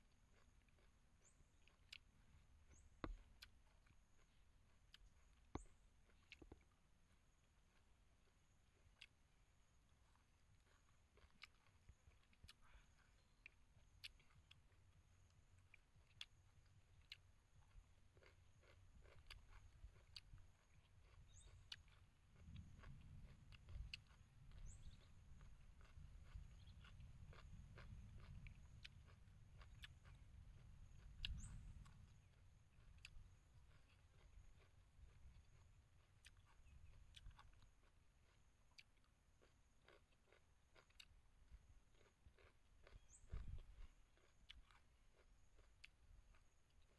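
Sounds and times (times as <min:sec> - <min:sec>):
faint chewing: 0:00.0 - 0:46.9.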